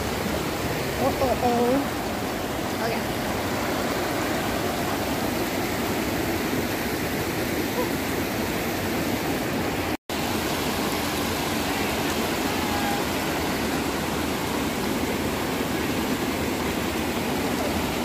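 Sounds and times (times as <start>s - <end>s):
creek water rushing over rocks: 0.0s - 18.0s.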